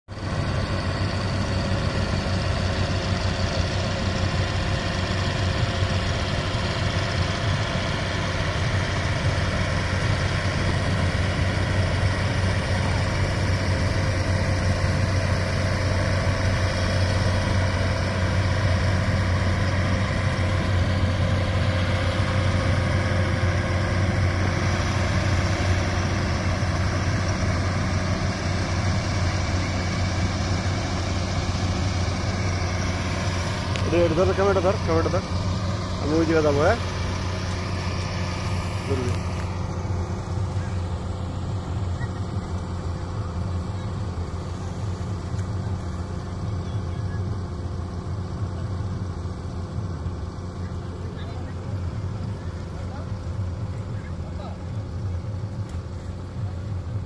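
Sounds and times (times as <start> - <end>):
ferry engine hum: 0.0 - 57.0
propeller wash churning: 0.4 - 49.2.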